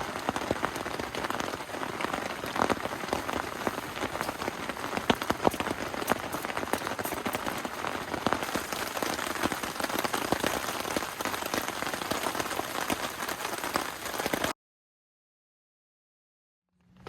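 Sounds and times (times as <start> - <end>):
raindrops striking close by: 0.0 - 14.5.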